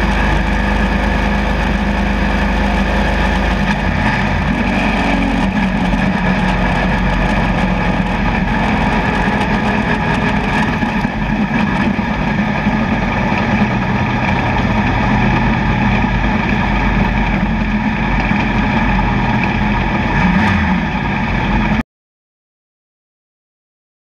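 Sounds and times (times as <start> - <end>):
race car engine running: 0.0 - 21.8.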